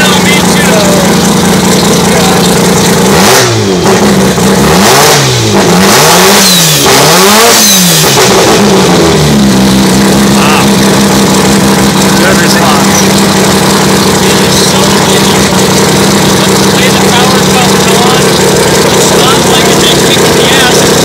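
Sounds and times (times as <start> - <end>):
rotary car engine revving: 0.0 - 21.0.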